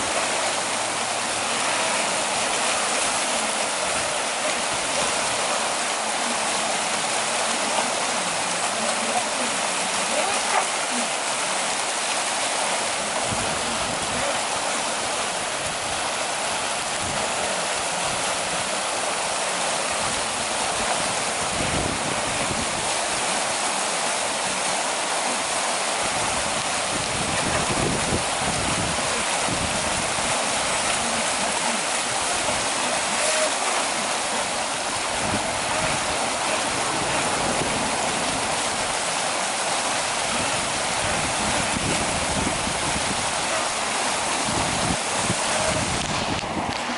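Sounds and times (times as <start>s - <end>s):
creek water rushing over rapids: 0.0s - 46.9s.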